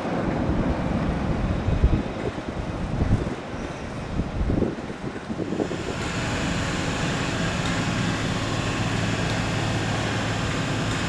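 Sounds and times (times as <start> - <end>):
electric train low hum: 0.0 - 11.0.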